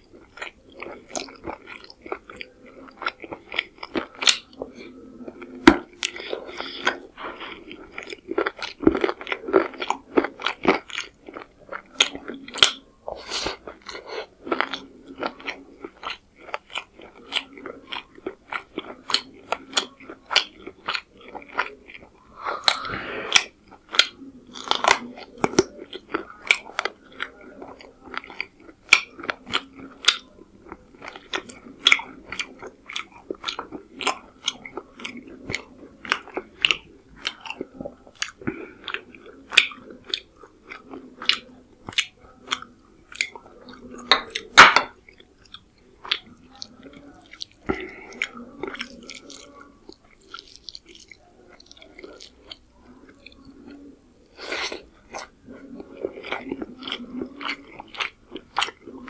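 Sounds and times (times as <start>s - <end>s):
chewing and mouth smacking: 0.0s - 59.0s.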